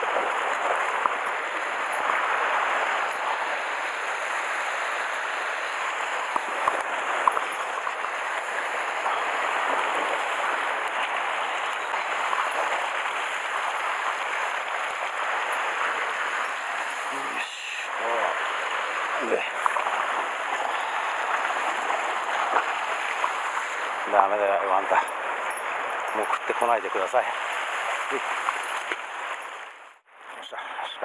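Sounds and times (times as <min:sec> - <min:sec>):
surf washing over rocks: 0:00.0 - 0:30.0.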